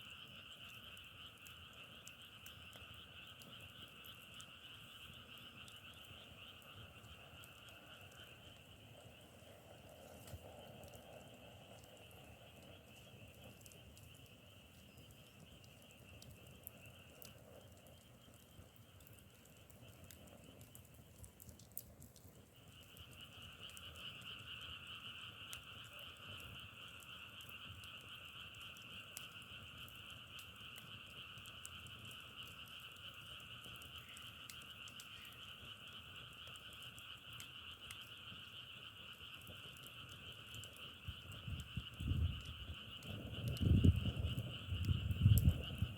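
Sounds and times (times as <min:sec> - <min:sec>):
chorus of frogs calling: 0:00.1 - 0:45.9.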